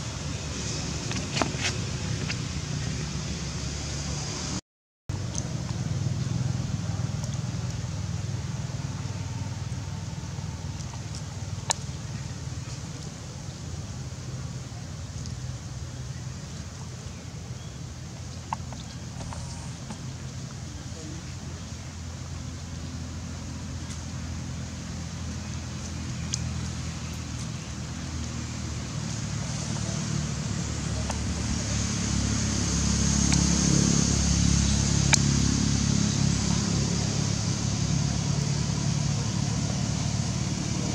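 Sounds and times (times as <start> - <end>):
low outdoor rumble: 0.0 - 40.9.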